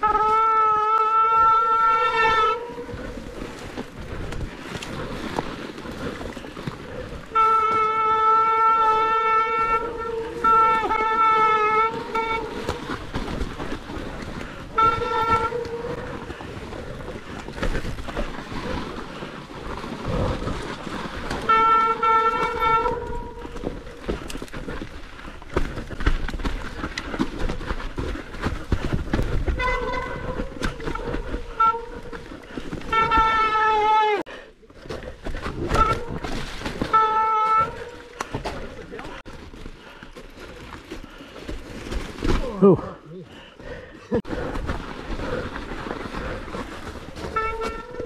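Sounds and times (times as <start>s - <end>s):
bike rattling: 0.0s - 48.0s
tyres crunching through snow: 0.0s - 48.0s.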